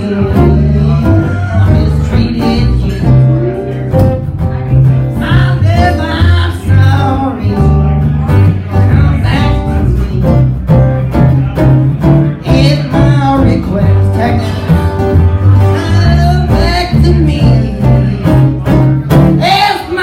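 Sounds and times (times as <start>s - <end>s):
bluegrass band playing: 0.0s - 20.0s
walking bass line: 0.0s - 20.0s.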